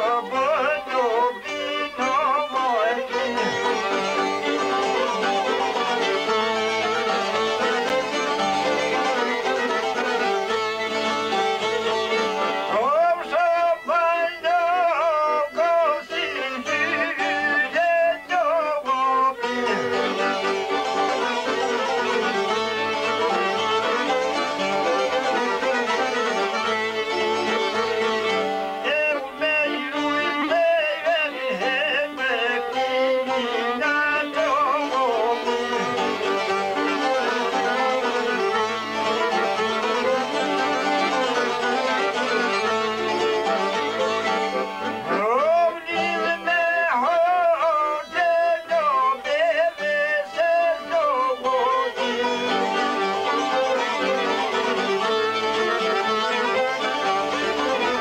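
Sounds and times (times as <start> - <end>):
accordion: 0.0 - 58.0
strummed string instruments: 0.0 - 58.0
violin melody: 0.0 - 58.0.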